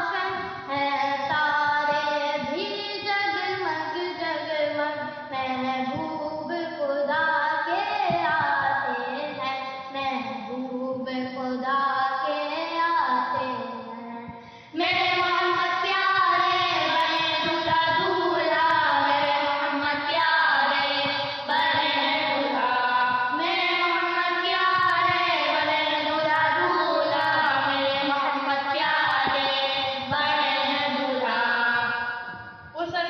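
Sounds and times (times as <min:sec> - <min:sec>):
voices singing devotional song: 0:00.0 - 0:33.0.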